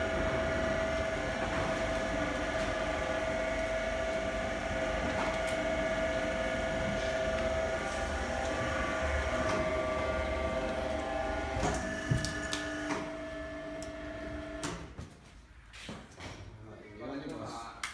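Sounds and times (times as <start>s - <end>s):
electric motor whining: 0.0s - 14.6s.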